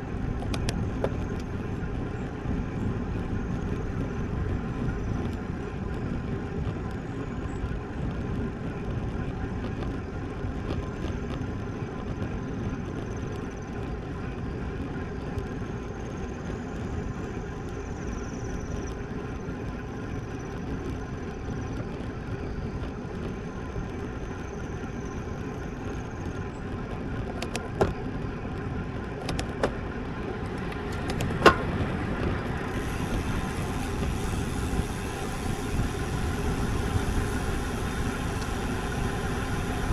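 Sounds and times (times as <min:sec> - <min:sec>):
bicycle tyre noise on road: 0:00.0 - 0:39.9
wind over microphone: 0:00.0 - 0:39.9.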